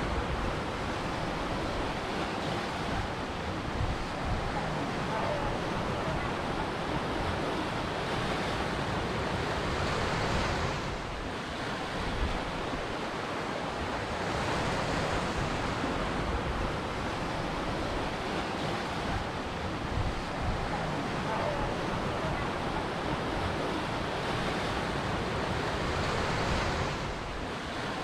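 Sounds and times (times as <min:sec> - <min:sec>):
ocean surf washing ashore: 0:00.0 - 0:28.0.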